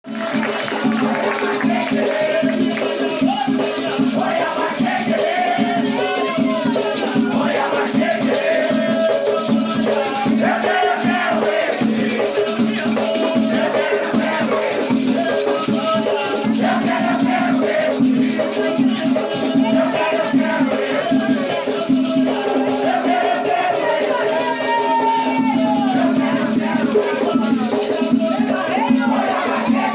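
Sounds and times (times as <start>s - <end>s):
rattles shaken in fast rhythm: 0.1s - 29.9s
voices singing: 0.1s - 29.9s.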